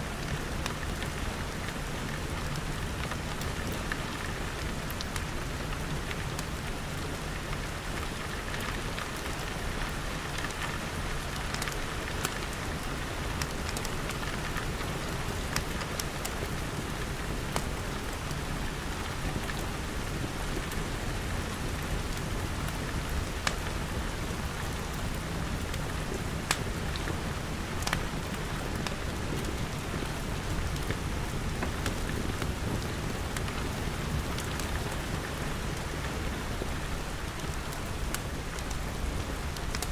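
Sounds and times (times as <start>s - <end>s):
rain pattering on glass: 0.2s - 39.9s
wood fire crackling: 0.2s - 39.9s.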